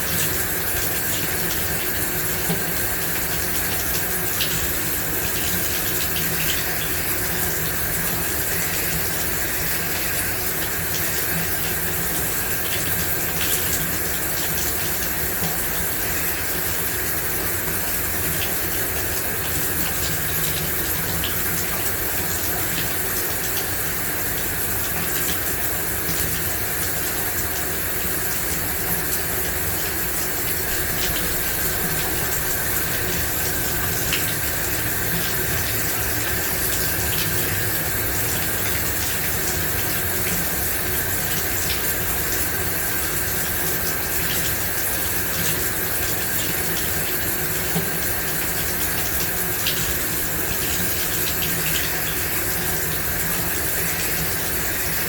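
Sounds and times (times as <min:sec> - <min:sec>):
shower water spraying: 0:00.0 - 0:55.0
water splashes and drips: 0:00.0 - 0:55.0.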